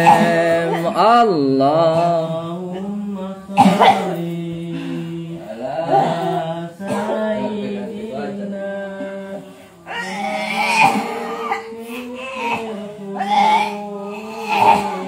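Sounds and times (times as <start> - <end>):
person chanting slowly: 0.0 - 15.0.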